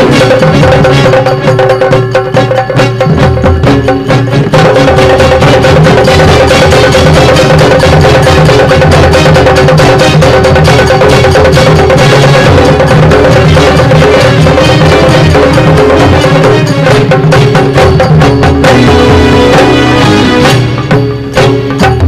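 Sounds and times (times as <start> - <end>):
rapid dense drumming: 0.0 - 22.0.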